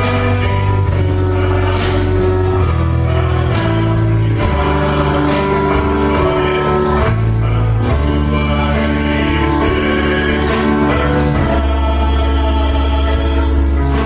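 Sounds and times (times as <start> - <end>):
band with bass: 0.0 - 14.0
group of voices singing: 0.0 - 14.0.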